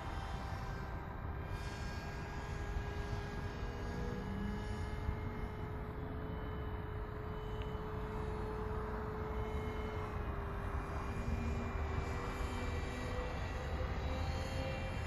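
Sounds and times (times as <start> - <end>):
distant aircraft motor droning: 0.0 - 15.0
wind rumble on microphone: 0.0 - 15.0.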